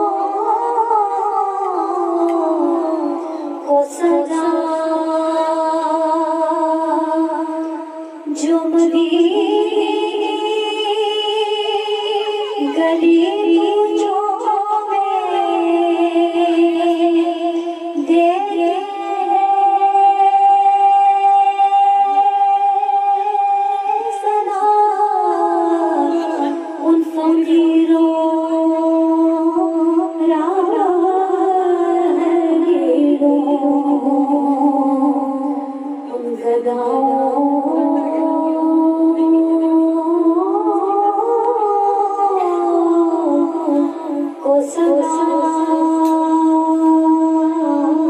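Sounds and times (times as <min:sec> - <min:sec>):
women singing devotional song: 0:00.0 - 0:48.0.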